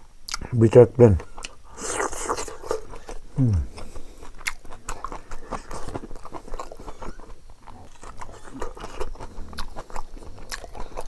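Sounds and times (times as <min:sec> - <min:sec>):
chewing and crunching: 0:01.2 - 0:11.0.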